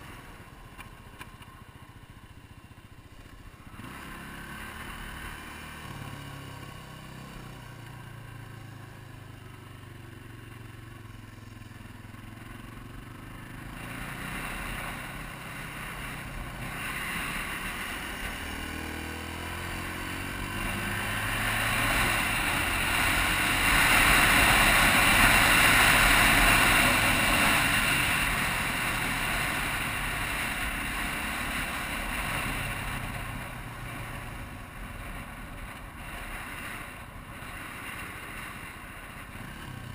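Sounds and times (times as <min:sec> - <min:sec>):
motorcycle engine revving: 0:03.2 - 0:39.9.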